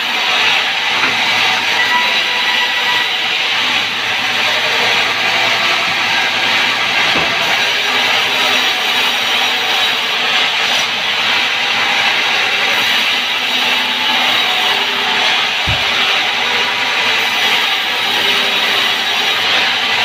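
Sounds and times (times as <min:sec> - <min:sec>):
band saw cutting through log: 0:00.0 - 0:20.0.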